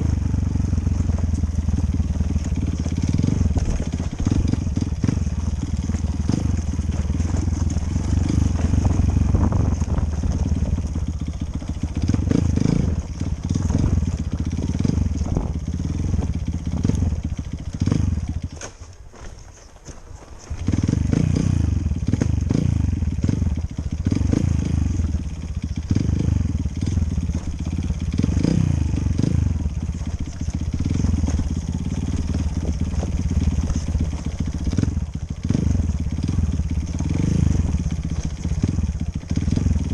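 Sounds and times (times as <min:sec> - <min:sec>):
dirt bike engine revving: 0:00.0 - 0:18.8, 0:20.5 - 0:39.9.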